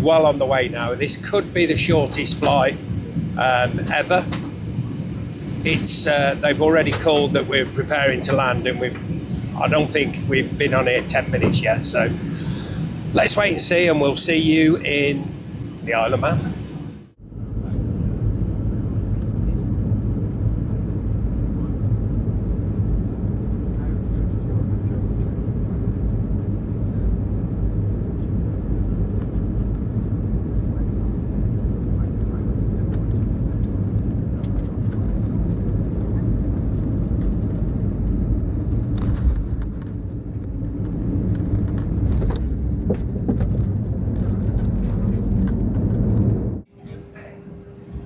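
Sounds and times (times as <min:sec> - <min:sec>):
jet airliner cabin rumble: 0:00.0 - 0:48.0.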